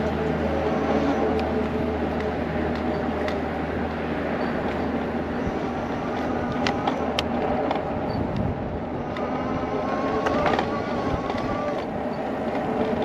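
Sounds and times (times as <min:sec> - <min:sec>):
traffic noise: 0:00.0 - 0:13.0
wind rumbling on microphone: 0:00.0 - 0:13.0.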